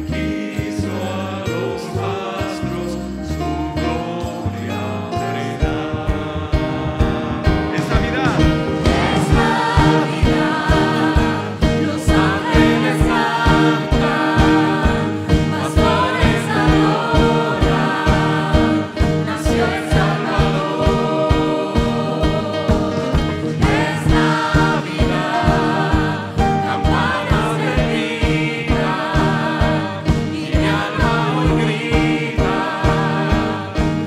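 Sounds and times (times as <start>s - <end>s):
band playing: 0.0s - 34.0s
men and women singing together: 0.0s - 34.0s
drums and bass beat: 5.7s - 34.0s.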